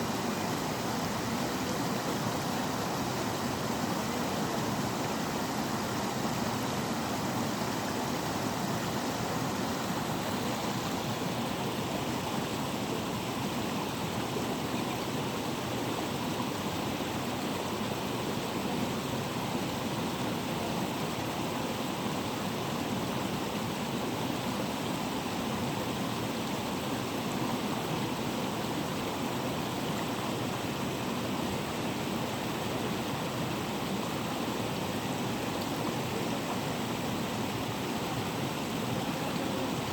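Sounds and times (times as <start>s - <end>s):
waterfall roaring: 0.0s - 22.7s, 23.4s - 39.9s.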